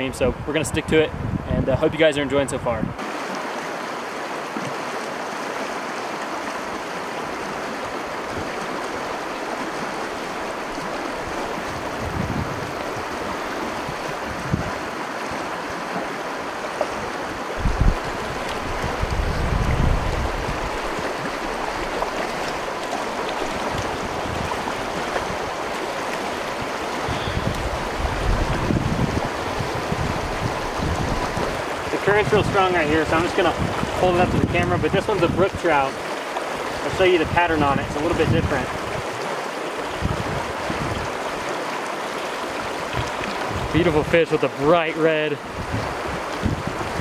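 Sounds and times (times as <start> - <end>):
stream rushing over rocks: 1.8 - 47.0.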